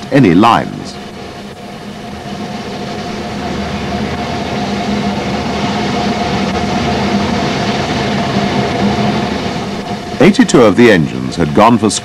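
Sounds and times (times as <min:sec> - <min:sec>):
steam train rumble and hiss: 0:00.0 - 0:12.0.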